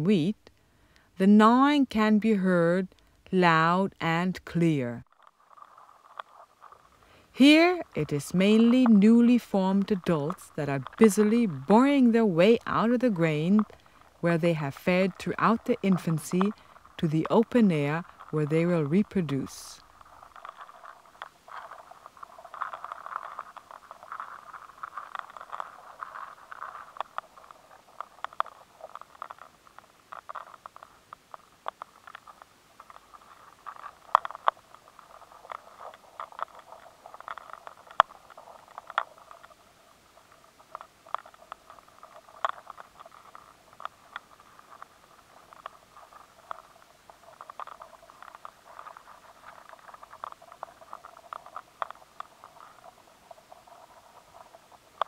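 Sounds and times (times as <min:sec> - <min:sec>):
insects gnawing grain: 0:04.6 - 0:55.0.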